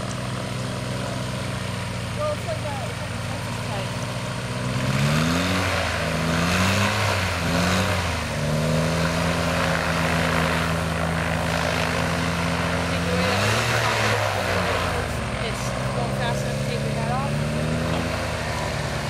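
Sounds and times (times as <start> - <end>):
aircraft engine driving propeller: 0.0 - 19.0.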